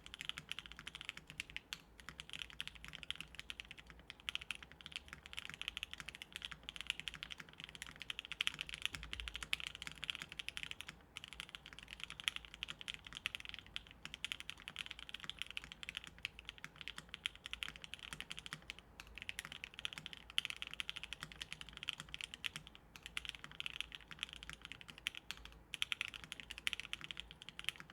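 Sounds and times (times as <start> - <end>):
fast mechanical keyboard typing: 0.0 - 27.9.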